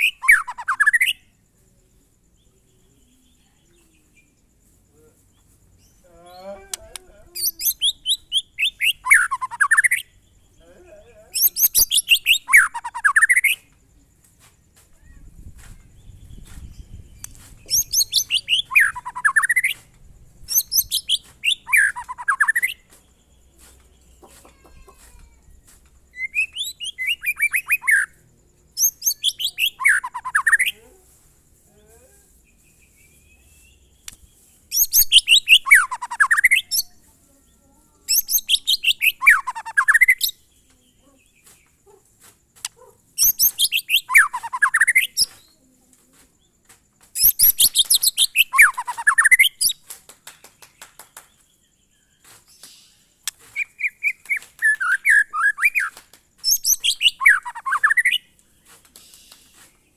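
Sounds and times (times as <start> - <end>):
songbird singing falling phrases: 0.0 - 59.9.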